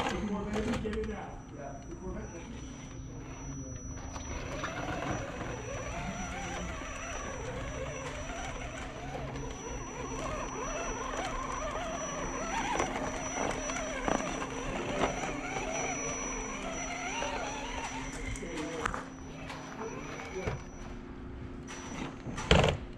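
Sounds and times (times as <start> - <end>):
electric motor whining: 2.1 - 21.0.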